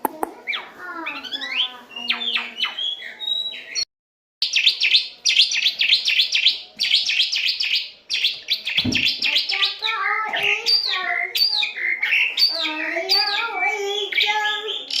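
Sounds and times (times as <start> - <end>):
starling singing: 0.4 - 15.0.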